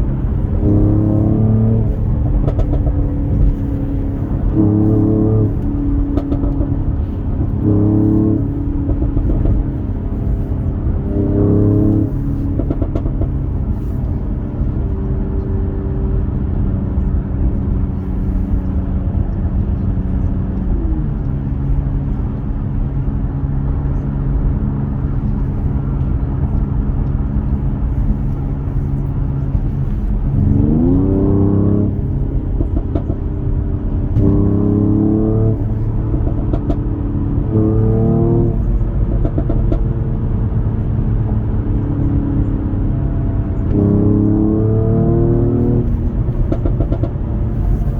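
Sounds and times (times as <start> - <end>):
car engine revving: 0.0 - 47.9.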